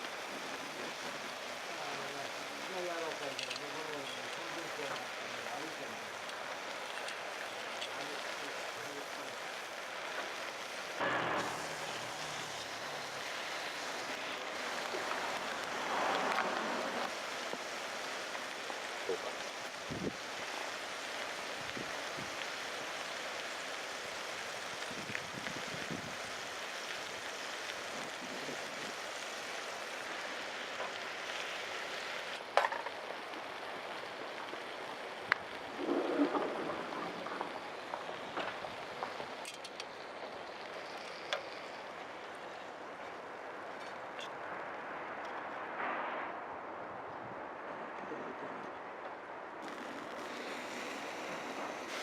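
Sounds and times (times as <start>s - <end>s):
food sizzling on a griddle: 0.0s - 44.3s, 49.6s - 52.0s.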